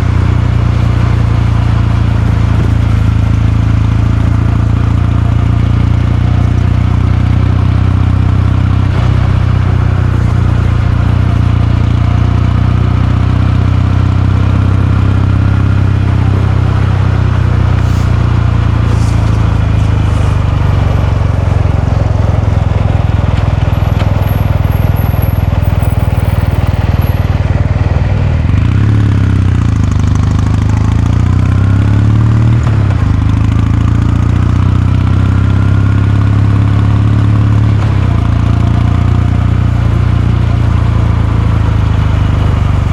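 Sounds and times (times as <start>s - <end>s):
motorcycle engine and exhaust: 0.0s - 42.9s.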